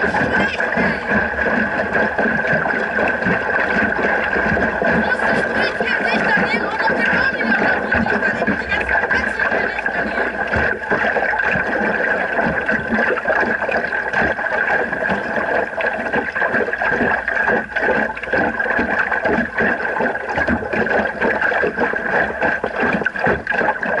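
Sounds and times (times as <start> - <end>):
water splashing against hull: 0.0 - 24.0.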